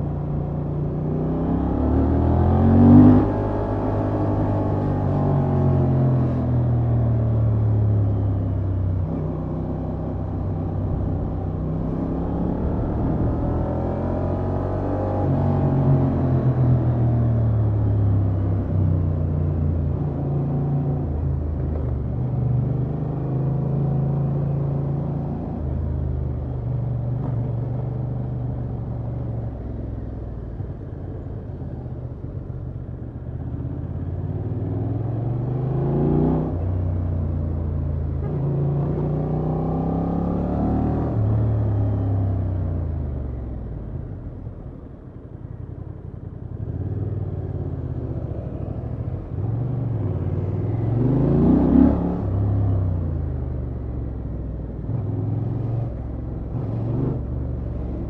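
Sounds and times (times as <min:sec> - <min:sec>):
motorcycle engine accelerating: 0:00.6 - 0:29.8, 0:33.4 - 0:58.0.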